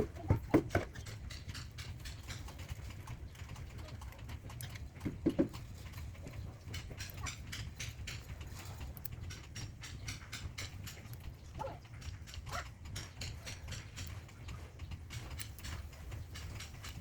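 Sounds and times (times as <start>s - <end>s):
birds pecking and clicking in cage: 0.0s - 17.0s
steady low hum: 0.0s - 17.0s.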